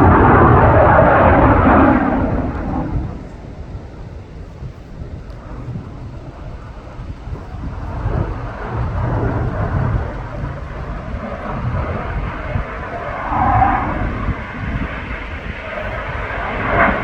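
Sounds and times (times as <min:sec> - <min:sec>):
jet engine rumbling: 0:00.0 - 0:17.0.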